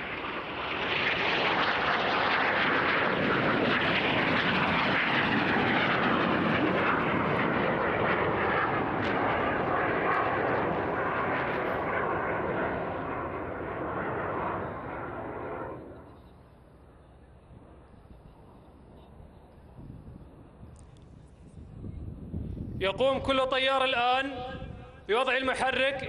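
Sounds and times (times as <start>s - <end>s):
jets flying low past: 0.0s - 26.0s.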